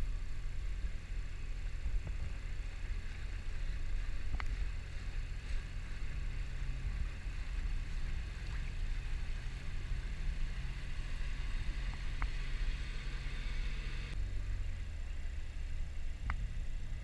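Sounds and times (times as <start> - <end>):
water wash: 0.0 - 14.6
boat engine droning: 0.0 - 17.0.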